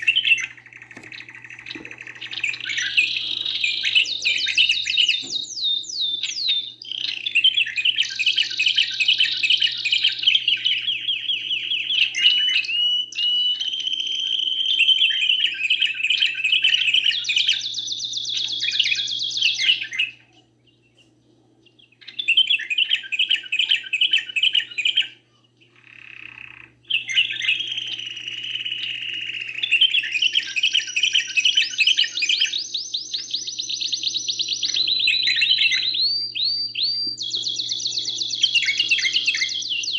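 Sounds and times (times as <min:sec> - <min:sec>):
songbird trilling: 0:00.0 - 0:20.8, 0:21.9 - 0:39.9
faint steady hum: 0:00.0 - 0:39.9.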